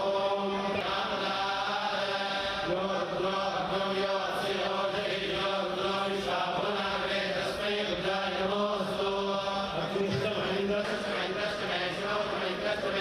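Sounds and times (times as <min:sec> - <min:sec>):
priests chanting in unison: 0:00.0 - 0:13.0.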